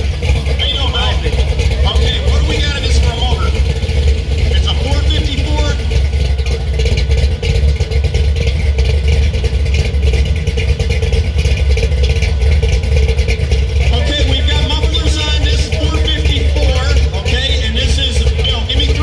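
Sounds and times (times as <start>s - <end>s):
car engine idling: 0.0s - 19.0s
deep exhaust rumble: 0.0s - 19.0s.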